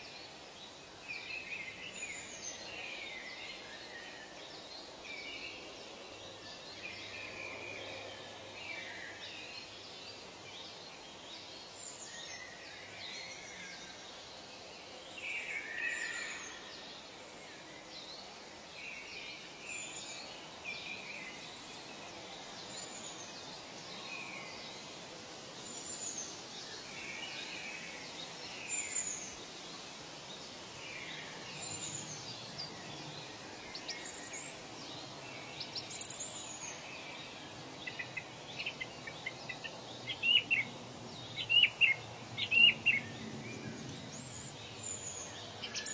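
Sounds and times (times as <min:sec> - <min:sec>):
background hiss: 0:00.0 - 0:45.9.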